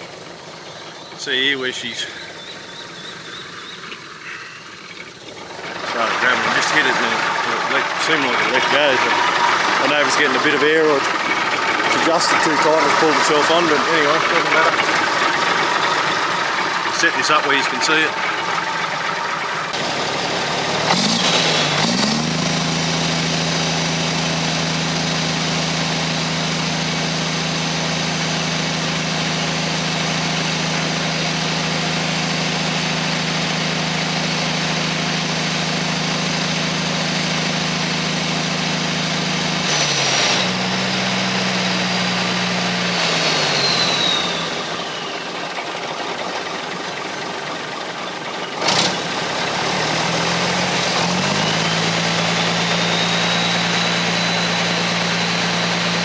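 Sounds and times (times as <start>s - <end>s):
truck diesel engine revving: 0.0s - 56.0s.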